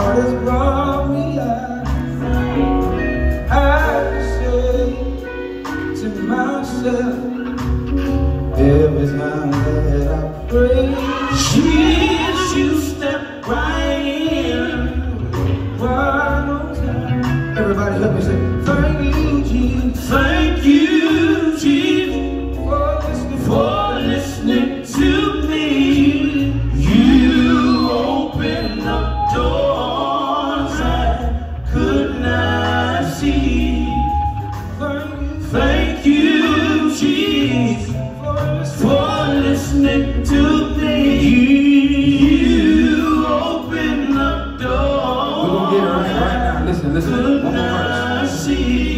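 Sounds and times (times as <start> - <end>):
men singing gospel: 0.0 - 48.9
band with drums: 7.1 - 48.9.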